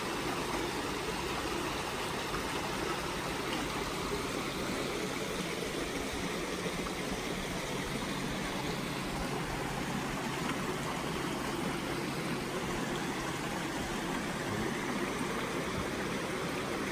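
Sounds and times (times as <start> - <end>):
waterfall splashing into pond: 0.0 - 16.9.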